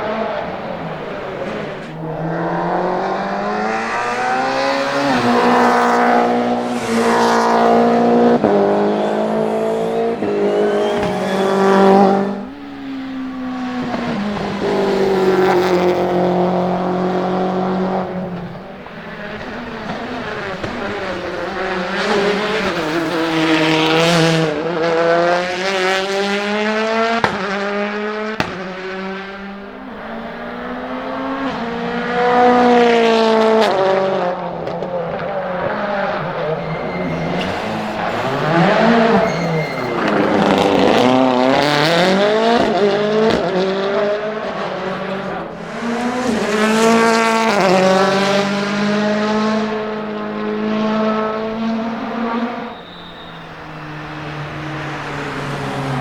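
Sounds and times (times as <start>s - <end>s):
rally car engines accelerating: 0.0s - 56.0s.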